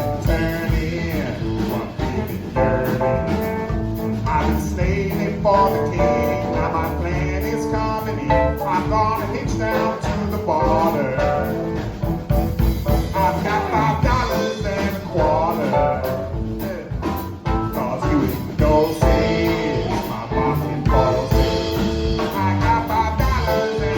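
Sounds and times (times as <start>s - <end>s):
bass: 0.0s - 23.9s
blues band playing: 0.0s - 23.9s
drums: 0.0s - 23.9s.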